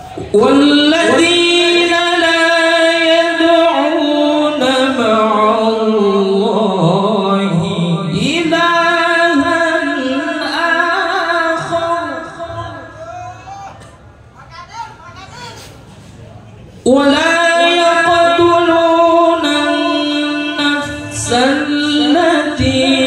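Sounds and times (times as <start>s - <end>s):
young man reciting melodically: 0.0s - 16.0s, 16.7s - 23.0s.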